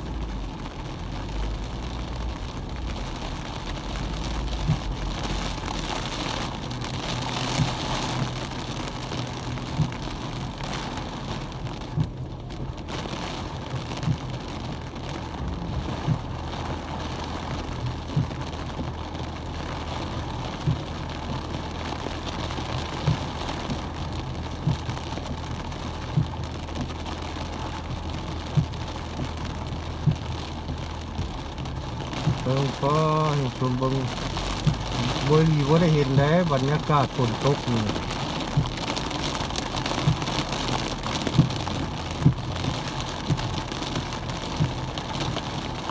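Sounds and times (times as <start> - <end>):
car engine humming: 0.0 - 45.9
heavy rain on car roof: 0.0 - 45.9.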